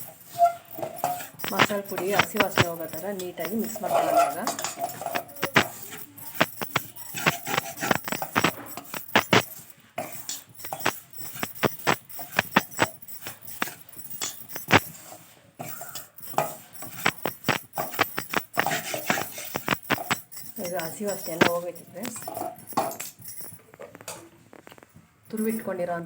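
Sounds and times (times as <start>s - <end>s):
spoon scraping a pan: 0.0s - 24.9s.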